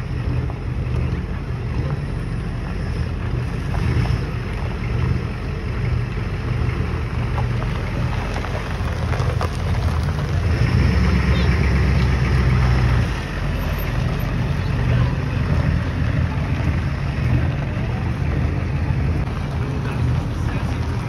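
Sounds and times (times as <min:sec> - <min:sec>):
vehicle engines rumbling past: 0:00.0 - 0:21.0.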